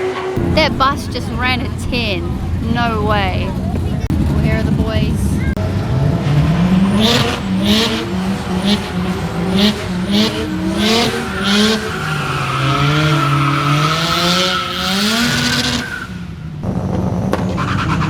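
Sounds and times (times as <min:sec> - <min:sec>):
drag car engine revving: 0:00.0 - 0:18.0
engine crackles: 0:00.0 - 0:18.0.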